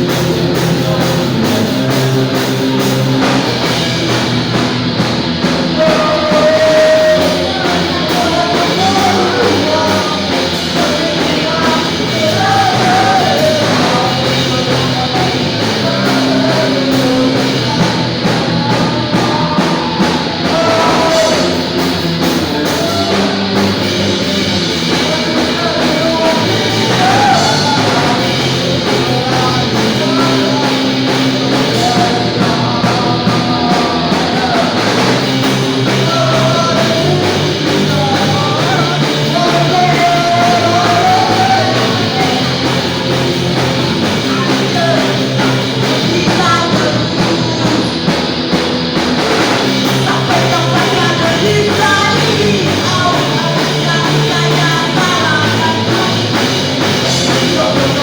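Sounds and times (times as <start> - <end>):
person singing: 0.0 - 48.6, 49.2 - 58.0
punk rock band playing: 0.0 - 58.0.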